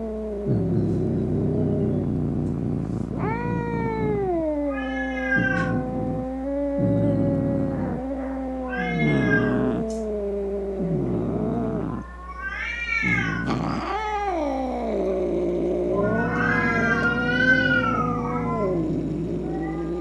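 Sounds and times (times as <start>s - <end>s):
angry cat yowling: 0.0s - 20.0s.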